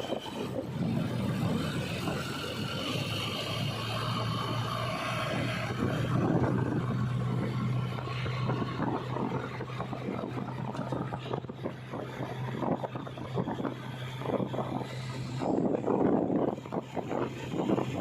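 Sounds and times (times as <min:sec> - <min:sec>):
diesel machinery engine running: 0:00.0 - 0:18.0
wind buffeting microphone: 0:00.0 - 0:18.0.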